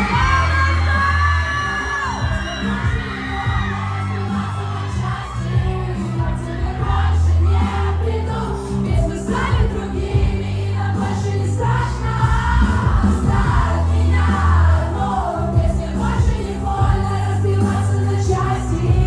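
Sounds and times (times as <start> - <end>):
loud pop music: 0.0 - 19.0
women singing: 0.0 - 19.0.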